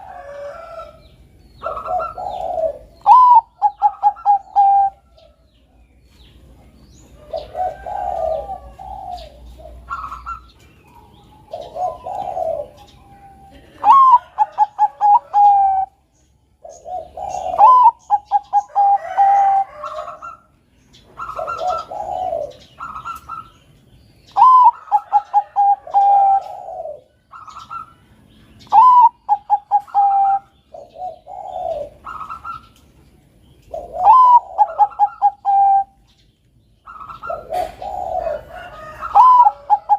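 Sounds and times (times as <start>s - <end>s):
dove cooing: 0.0s - 5.4s, 6.5s - 23.7s, 24.3s - 32.9s, 33.6s - 36.2s, 36.8s - 39.9s.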